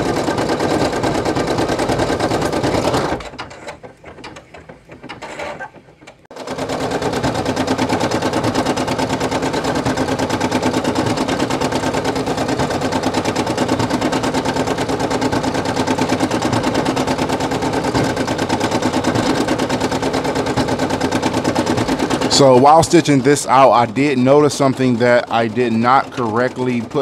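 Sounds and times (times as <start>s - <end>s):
embroidery machine stitching: 0.0s - 27.0s.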